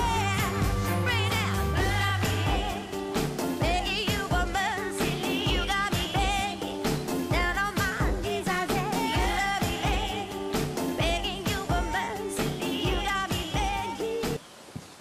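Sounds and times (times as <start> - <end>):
pop song with singer: 0.0 - 14.4.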